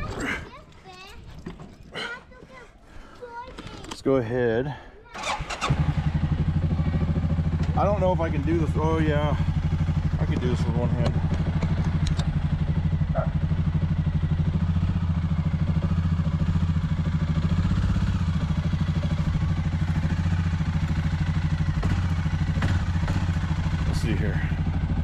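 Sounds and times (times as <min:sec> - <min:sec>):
atv engine idling: 0:03.3 - 0:25.0.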